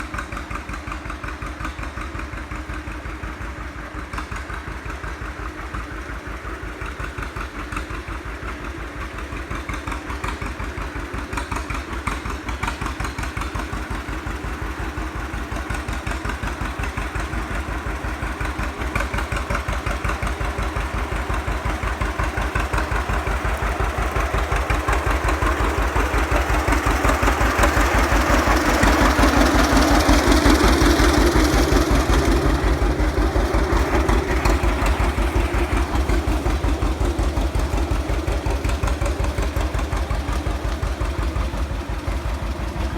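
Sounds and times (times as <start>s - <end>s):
old tractor engine running: 0.0s - 42.9s.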